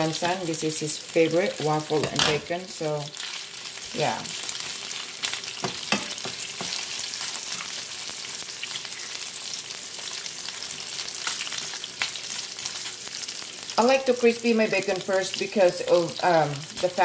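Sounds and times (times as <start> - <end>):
bacon sizzling in frying pan: 0.0 - 17.0.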